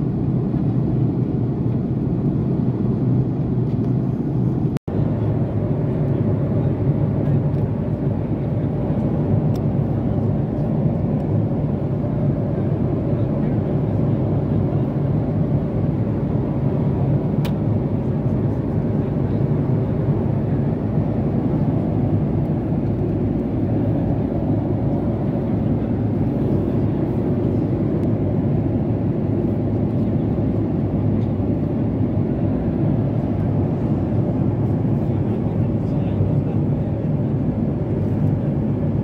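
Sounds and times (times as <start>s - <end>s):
airplane cabin roar: 0.0s - 39.0s.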